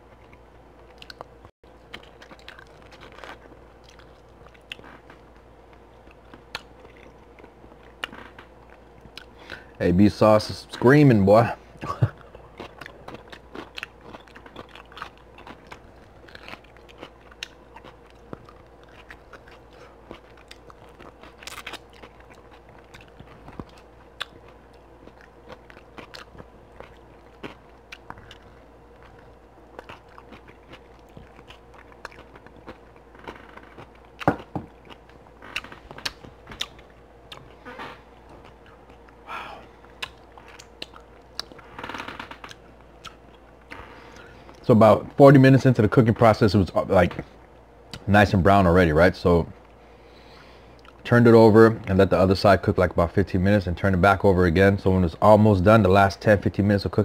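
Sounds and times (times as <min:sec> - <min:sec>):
person chewing ribs: 0:00.0 - 0:09.8, 0:10.5 - 0:45.1, 0:49.6 - 0:51.0
faint steady hum: 0:00.0 - 0:57.0.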